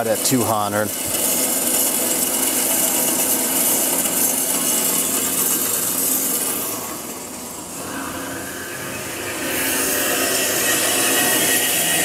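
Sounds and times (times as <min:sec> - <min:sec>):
band saw cutting metal bar: 0:00.0 - 0:12.0.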